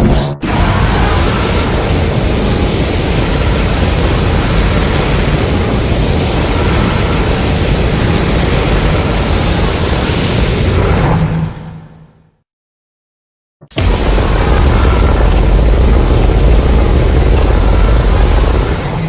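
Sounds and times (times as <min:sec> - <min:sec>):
rushing blast with deep rumble: 0:00.0 - 0:12.2, 0:13.7 - 0:19.0.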